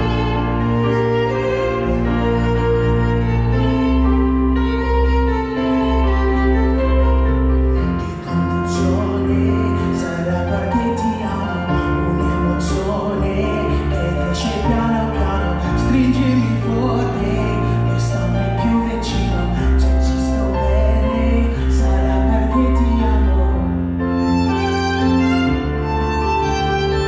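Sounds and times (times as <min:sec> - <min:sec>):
held low bass notes: 0:00.0 - 0:27.0
piano: 0:00.0 - 0:27.0
wavering violin melody: 0:00.0 - 0:27.0.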